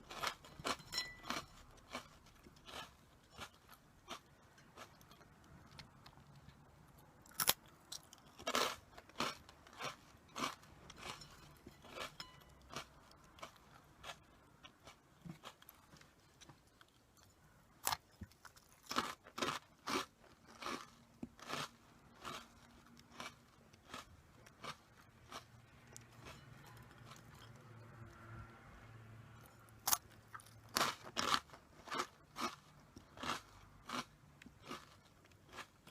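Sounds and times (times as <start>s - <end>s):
chewing crunchy corn puffs: 0.0s - 28.4s, 29.4s - 35.9s.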